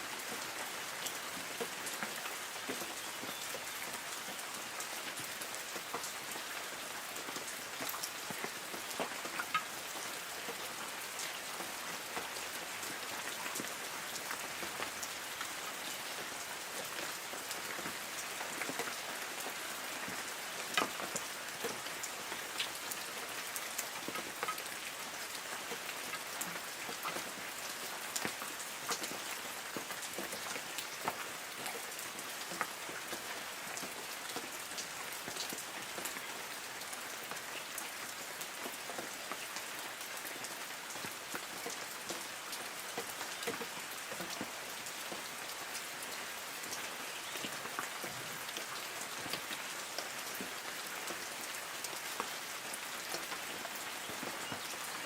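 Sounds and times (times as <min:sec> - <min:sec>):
hiss of light rain: 0:00.0 - 0:55.0
raindrops pattering on leaves: 0:00.0 - 0:55.0.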